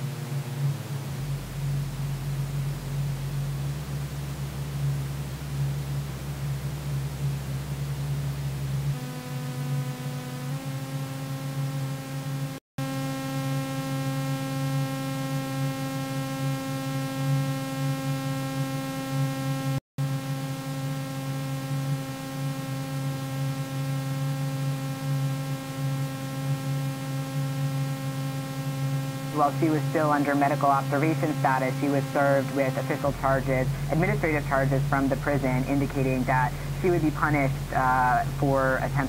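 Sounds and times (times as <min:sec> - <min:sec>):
steady hum with overtones: 0:00.0 - 0:39.0.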